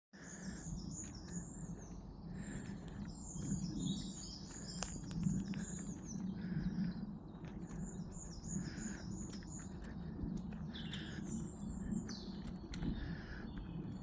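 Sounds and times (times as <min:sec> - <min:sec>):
woodland birds chirping: 0:00.1 - 0:14.0
steady low rumble: 0:00.2 - 0:14.0.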